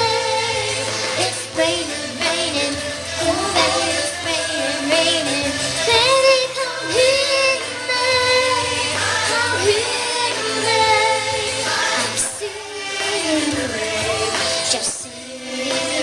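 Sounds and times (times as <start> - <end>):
girl singing: 0.0 - 0.6, 1.2 - 16.0
pop backing track: 0.0 - 16.0.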